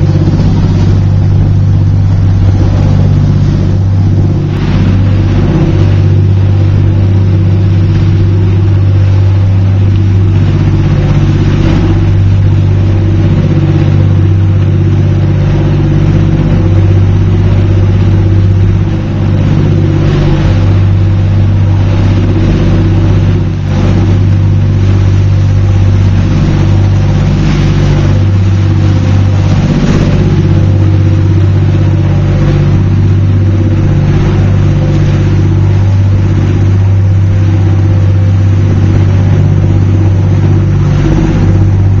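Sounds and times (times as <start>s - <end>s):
boat engine droning: 0.0s - 42.0s
wind and water hiss: 0.0s - 42.0s.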